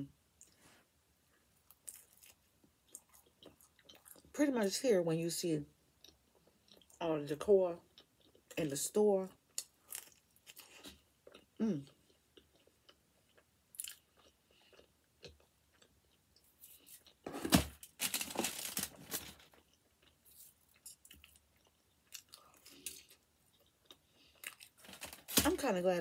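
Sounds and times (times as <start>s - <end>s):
chewing and crunching pizza: 1.6s - 4.4s, 6.0s - 7.0s, 7.7s - 25.5s.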